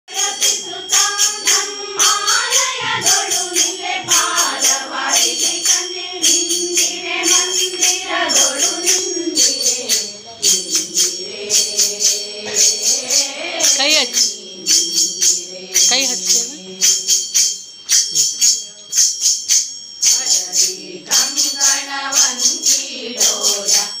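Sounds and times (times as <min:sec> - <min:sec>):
women singing together: 0:00.1 - 0:17.3, 0:20.0 - 0:24.0
jingling hand percussion: 0:00.1 - 0:24.0.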